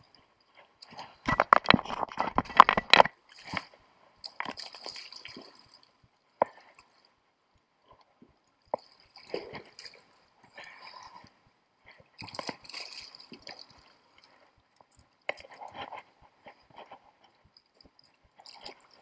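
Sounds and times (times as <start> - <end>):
footsteps on wet rocks and mud: 0.0 - 6.9, 8.7 - 19.0.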